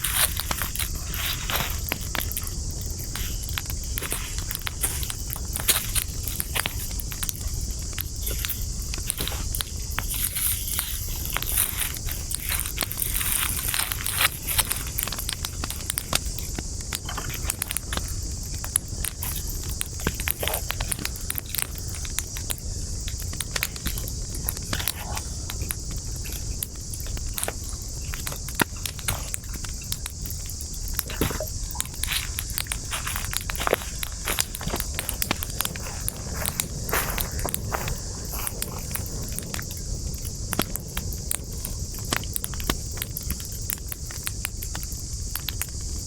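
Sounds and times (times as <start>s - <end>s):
campfire crackling and popping: 0.0s - 46.0s
steady hiss: 0.0s - 46.0s.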